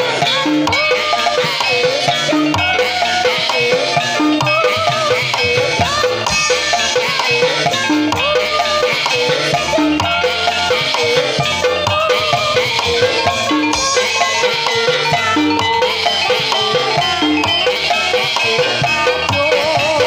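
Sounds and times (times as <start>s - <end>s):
steady drumming: 0.0s - 20.0s
struck keyed percussion: 0.0s - 20.0s
wavering melody line: 0.0s - 20.0s.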